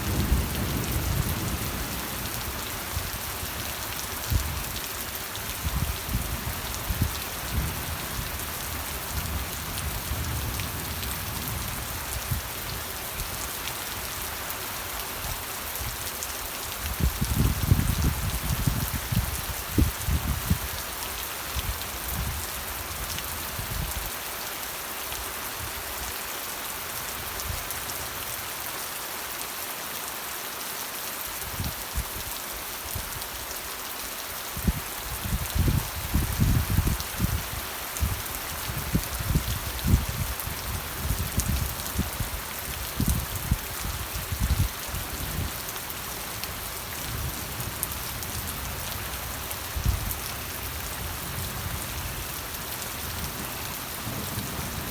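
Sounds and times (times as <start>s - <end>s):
rain pattering on a surface: 0.0s - 54.9s.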